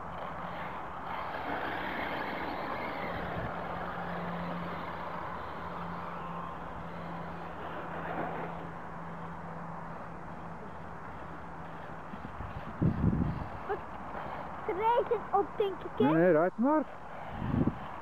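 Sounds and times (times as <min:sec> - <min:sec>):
electric rc truck motor: 0:00.0 - 0:18.0
steady low hum: 0:00.0 - 0:18.0
tyres on loose dirt: 0:00.0 - 0:18.0.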